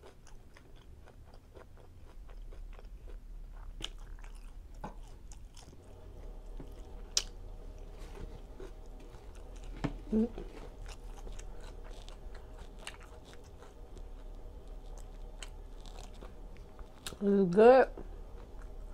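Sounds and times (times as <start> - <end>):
chewing food with mouth clicks: 0.0 - 17.2.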